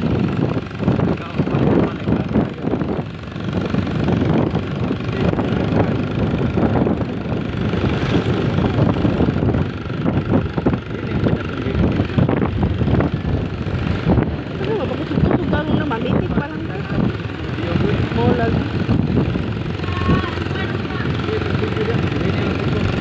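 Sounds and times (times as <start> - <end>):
vehicle engine running: 0.0 - 23.0
wind buffeting microphone: 0.0 - 23.0.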